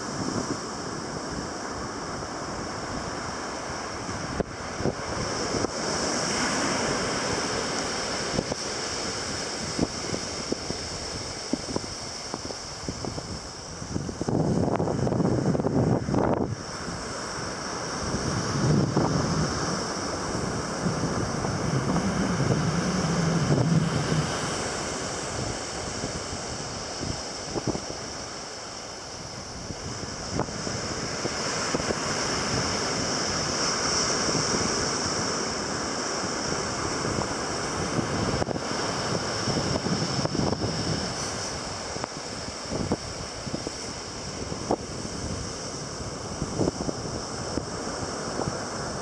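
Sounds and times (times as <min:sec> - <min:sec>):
sea waves washing ashore: 0:00.0 - 0:49.0
wind rumble on microphone: 0:00.0 - 0:49.0.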